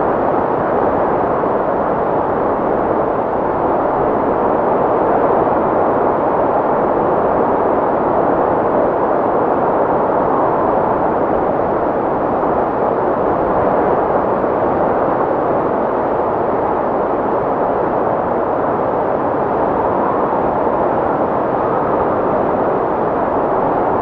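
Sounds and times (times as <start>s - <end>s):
steady rushing wind: 0.0s - 24.0s.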